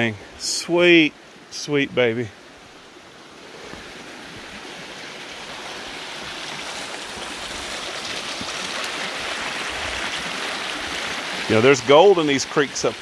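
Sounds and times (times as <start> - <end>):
creek rushing over stones: 0.0 - 13.0.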